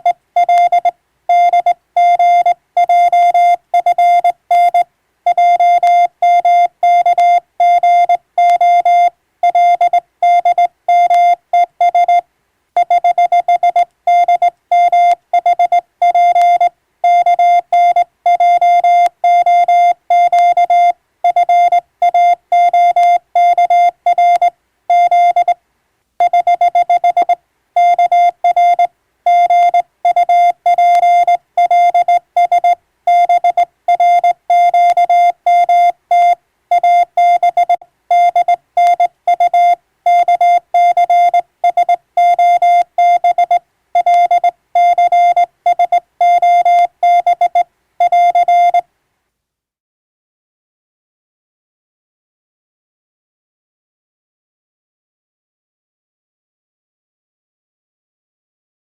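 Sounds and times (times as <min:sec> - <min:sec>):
morse code beeps: 0:00.0 - 0:12.2, 0:12.8 - 0:25.6, 0:26.2 - 0:48.8.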